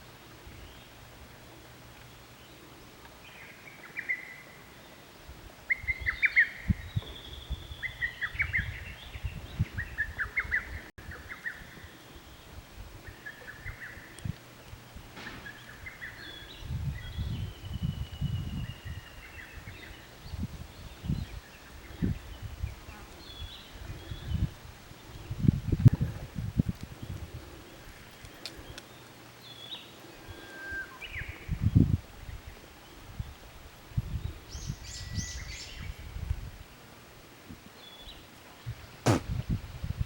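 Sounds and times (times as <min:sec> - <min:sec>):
songbirds chirping: 0:00.1 - 0:26.2, 0:26.8 - 0:33.4, 0:36.7 - 0:39.2.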